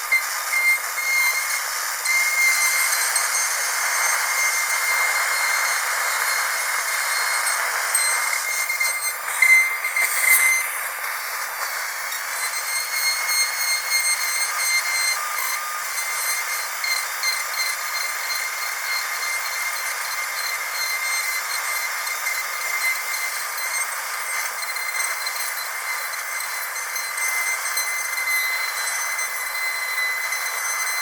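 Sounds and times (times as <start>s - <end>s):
dental drill whining: 0.0s - 31.0s.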